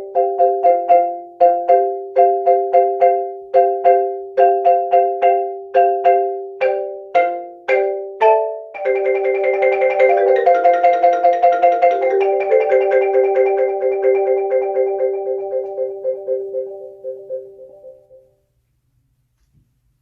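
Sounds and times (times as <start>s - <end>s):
marimba playing: 0.0s - 18.3s.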